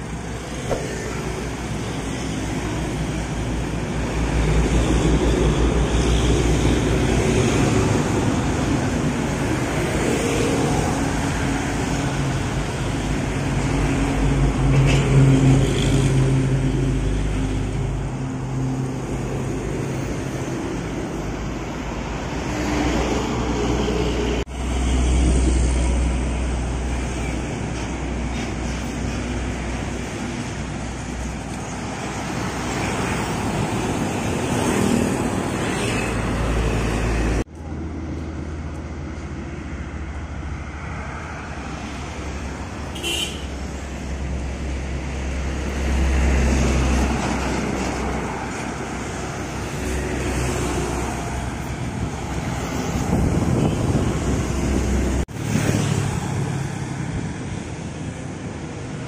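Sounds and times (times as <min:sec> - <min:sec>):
diesel trucks passing: 0:00.0 - 0:59.0.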